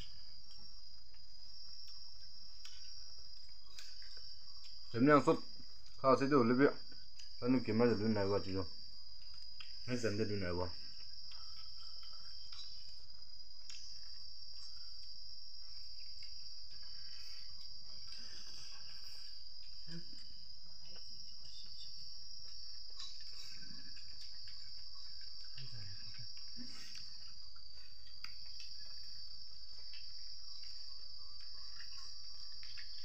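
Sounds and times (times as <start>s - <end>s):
clicks and rustles of eating: 0.0s - 6.0s, 6.8s - 7.9s, 8.5s - 33.0s
insect chorus: 0.0s - 33.0s.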